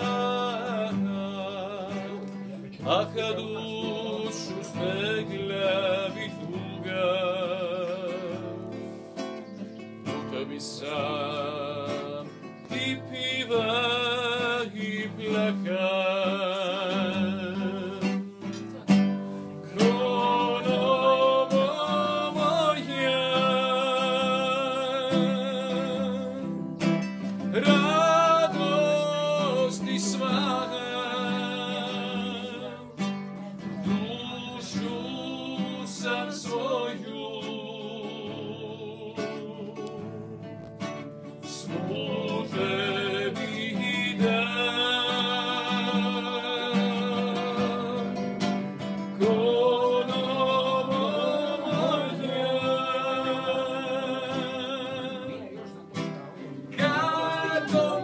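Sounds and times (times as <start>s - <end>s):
man singing: 0.0s - 9.3s, 10.0s - 58.0s
classical guitar: 0.0s - 58.0s.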